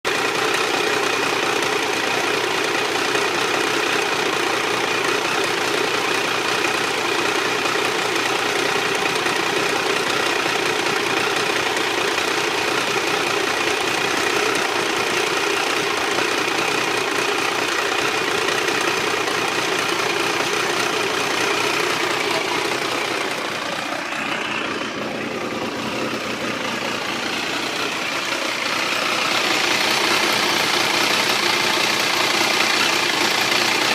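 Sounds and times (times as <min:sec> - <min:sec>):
motorcycle engine idling: 0:00.0 - 0:33.9
strange mechanical noise: 0:00.1 - 0:33.9.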